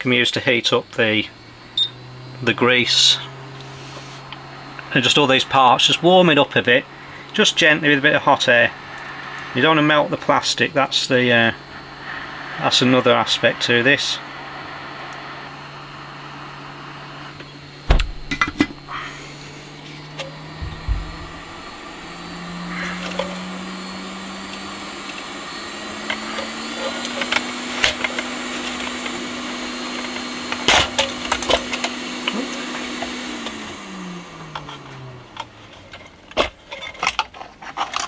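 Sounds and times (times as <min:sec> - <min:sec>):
hot air gun humming: 0:00.9 - 0:35.9.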